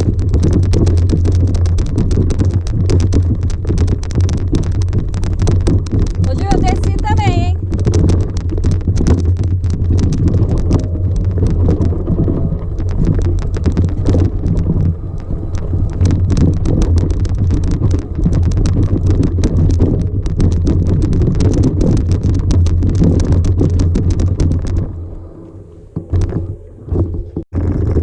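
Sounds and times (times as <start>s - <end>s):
rattling and knocking: 0.0s - 25.1s.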